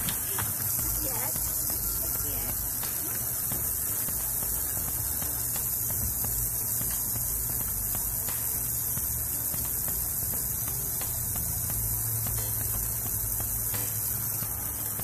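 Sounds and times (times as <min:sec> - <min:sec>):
hose spraying water onto wood: 0:00.0 - 0:15.0.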